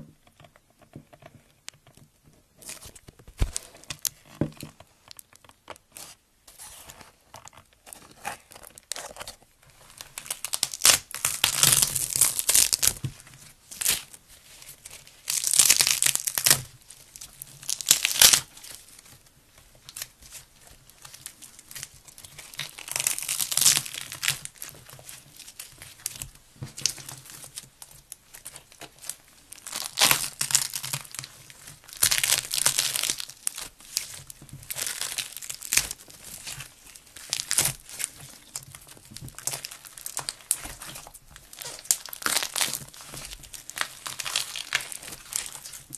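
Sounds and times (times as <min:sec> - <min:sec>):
hands squeezing crackly slime: 0:07.4 - 0:45.9.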